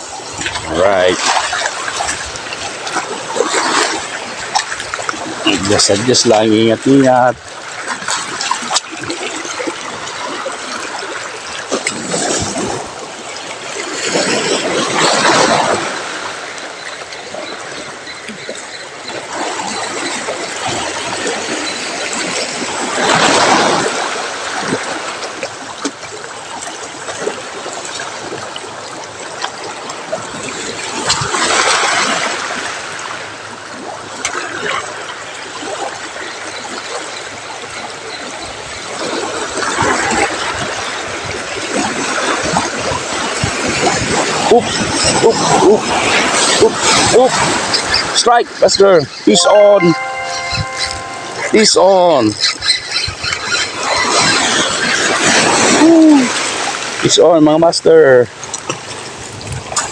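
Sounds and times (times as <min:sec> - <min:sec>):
sea waves washing on rocky shore: 0:00.0 - 0:59.9.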